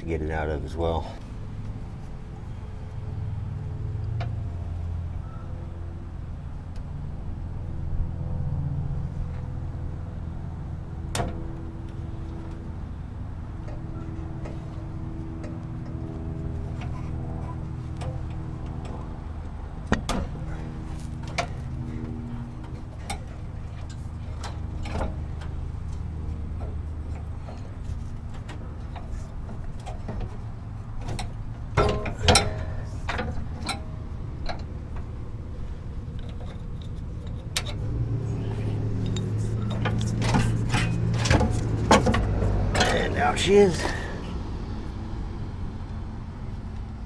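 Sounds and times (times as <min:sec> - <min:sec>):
low shop hum: 0:00.0 - 0:47.0.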